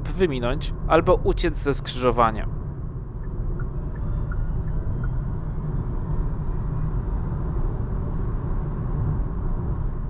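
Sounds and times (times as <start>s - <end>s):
road and tyre noise: 0.0s - 10.0s.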